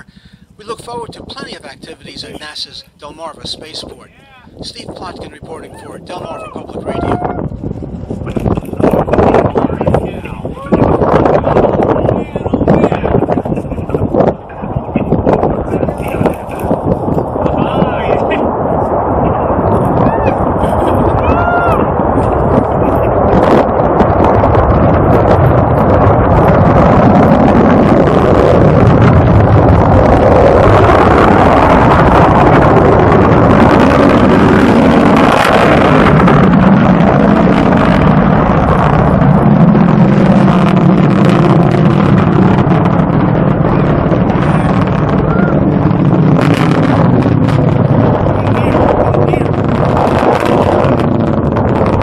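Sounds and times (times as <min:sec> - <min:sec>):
distant rocket engine roar: 0:00.0 - 0:52.0.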